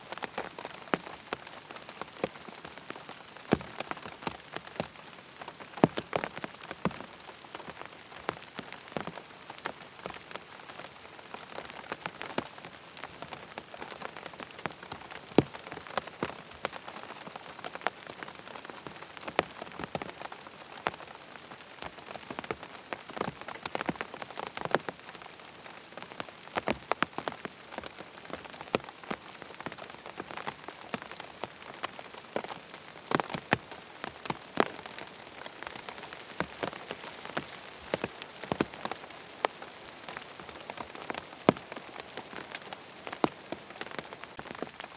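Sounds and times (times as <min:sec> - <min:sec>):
raindrops tapping close by: 0:00.0 - 0:44.9
steady rain: 0:00.0 - 0:44.9.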